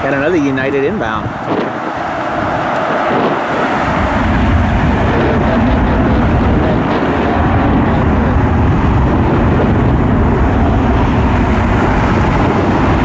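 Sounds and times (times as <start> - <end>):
jet engine rush: 0.0 - 13.0
wind buffeting microphone: 0.0 - 13.0.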